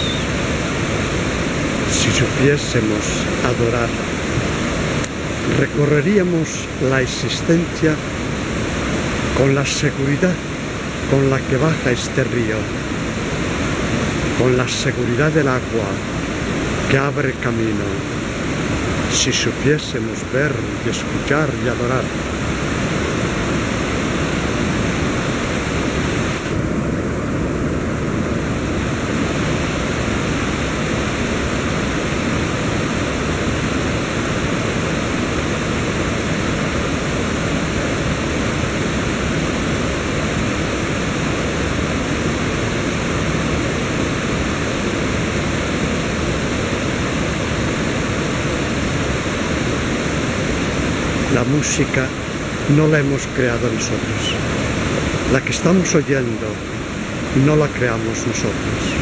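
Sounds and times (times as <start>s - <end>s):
river rushing over boulders: 0.0s - 59.0s.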